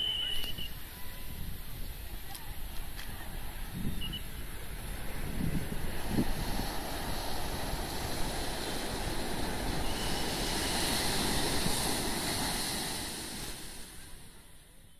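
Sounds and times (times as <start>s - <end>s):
sea surf on beach: 0.0s - 14.9s.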